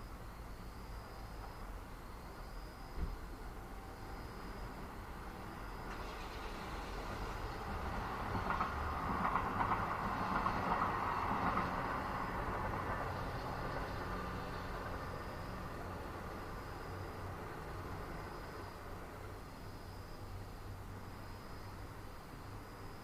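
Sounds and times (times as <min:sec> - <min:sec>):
train passing: 0:00.0 - 0:23.0.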